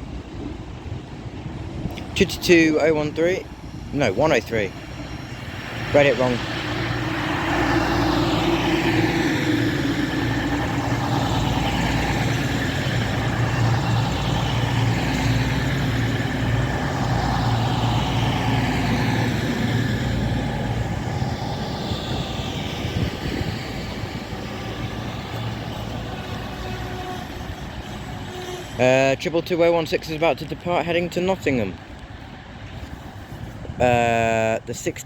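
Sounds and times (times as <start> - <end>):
train diesel engines droning: 0.0 - 35.0.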